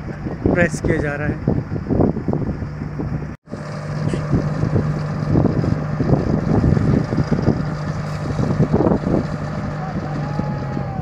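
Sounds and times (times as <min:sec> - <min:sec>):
diesel engines running: 0:00.0 - 0:11.0.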